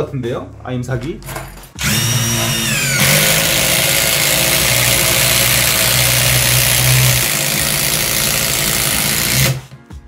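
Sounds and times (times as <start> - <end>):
impact driver whining and hammering: 1.3 - 9.8.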